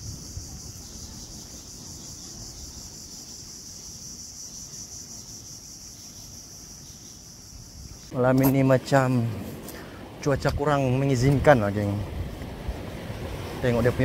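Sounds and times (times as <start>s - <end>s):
insects buzzing: 0.0s - 11.6s.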